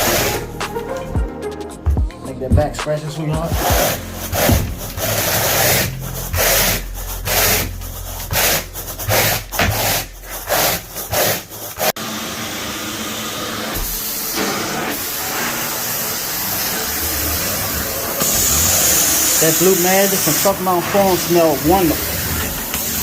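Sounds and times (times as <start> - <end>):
carpet rake rasping through carpet: 0.0 - 0.5, 3.4 - 23.0
extraction vacuum hiss: 0.0 - 0.6, 3.4 - 23.0.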